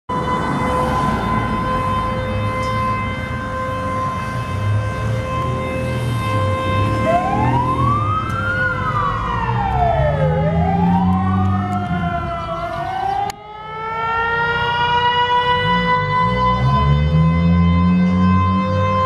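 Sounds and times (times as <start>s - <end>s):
steady fire siren tone: 0.1s - 19.0s
wailing siren: 0.1s - 19.0s.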